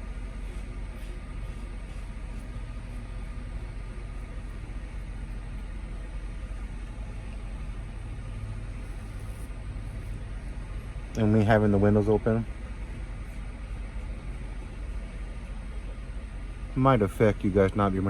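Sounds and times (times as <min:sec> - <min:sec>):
vehicle engines idling: 0:00.0 - 0:18.0.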